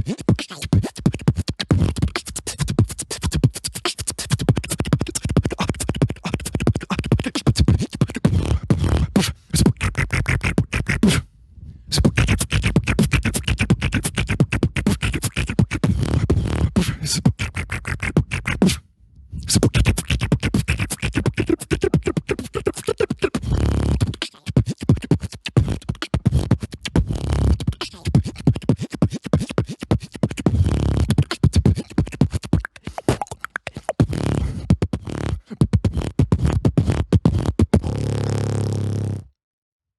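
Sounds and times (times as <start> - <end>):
beatboxing: 0.0 - 39.3.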